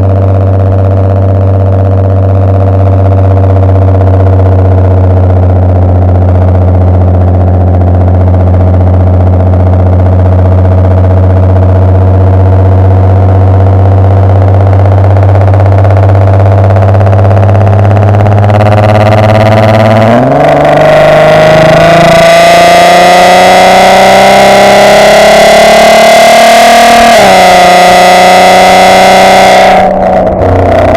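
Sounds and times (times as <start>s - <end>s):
distorted car engine accelerating: 0.0s - 30.9s.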